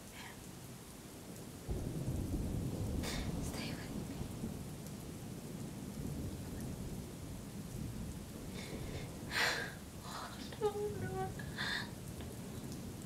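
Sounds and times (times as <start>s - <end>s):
rain rumble: 0.0s - 13.0s
distant thunder: 1.6s - 13.0s.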